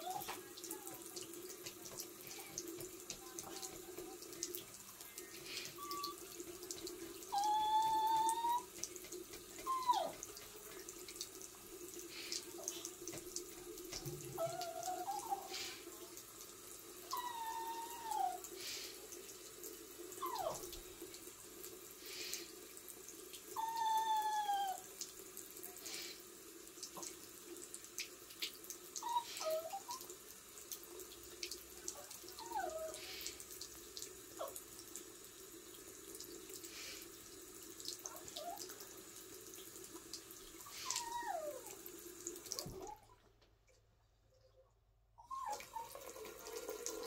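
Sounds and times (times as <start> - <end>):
tap water splashing into sink: 0.0 - 43.5.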